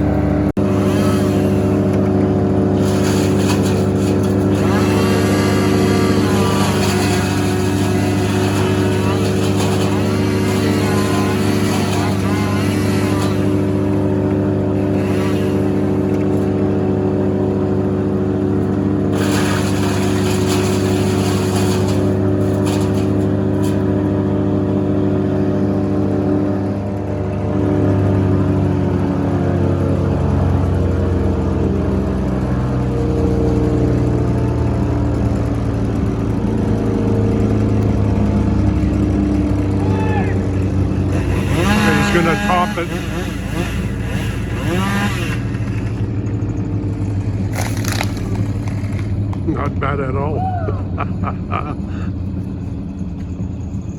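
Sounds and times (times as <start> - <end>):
heavy equipment engine running: 0.0 - 53.9.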